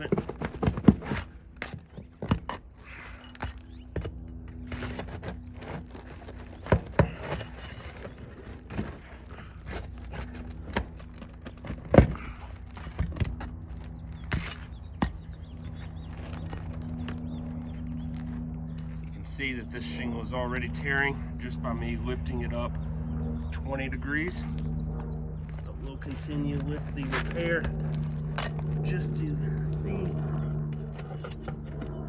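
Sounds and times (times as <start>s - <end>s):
shingles prying clicks and scraping: 0.0s - 19.2s, 25.4s - 32.0s
steady low hum: 0.0s - 32.0s.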